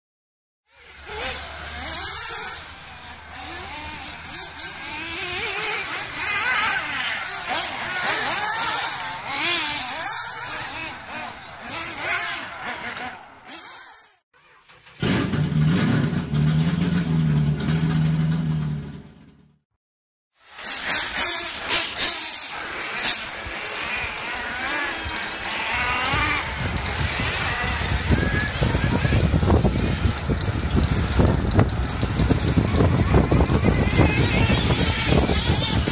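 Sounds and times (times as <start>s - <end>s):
rc buggy motor: 0.7s - 15.6s, 20.4s - 35.9s.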